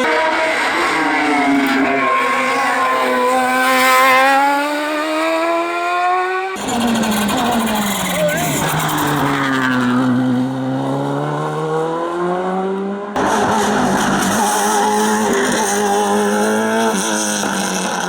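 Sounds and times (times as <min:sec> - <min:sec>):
race car engines revving: 0:00.0 - 0:18.0.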